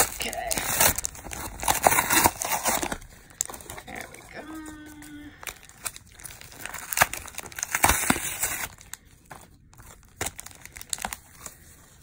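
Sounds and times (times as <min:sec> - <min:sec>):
foil packs rustling: 0:00.0 - 0:12.0
plastic packaging torn and crinkled: 0:00.0 - 0:12.0.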